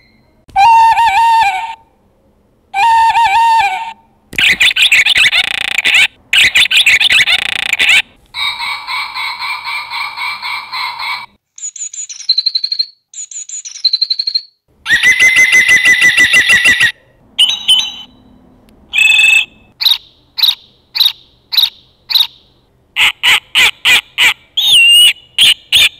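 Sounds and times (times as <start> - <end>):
recorded bird calls: 2.8 - 18.3, 18.9 - 25.9.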